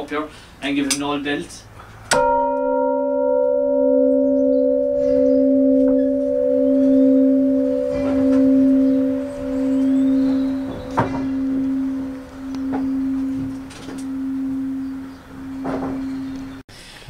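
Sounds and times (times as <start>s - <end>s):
bell ringing: 2.2s - 16.6s.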